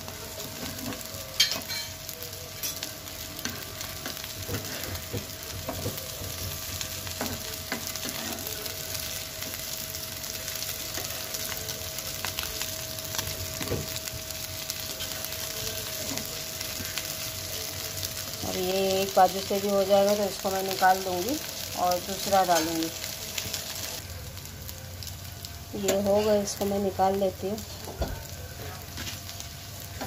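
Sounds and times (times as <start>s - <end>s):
patties sizzling in oil: 0.0s - 30.0s.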